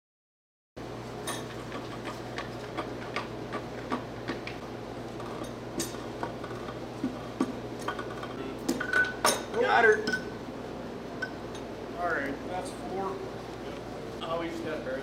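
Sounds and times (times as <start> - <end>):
steady low hum: 0.8 - 15.0.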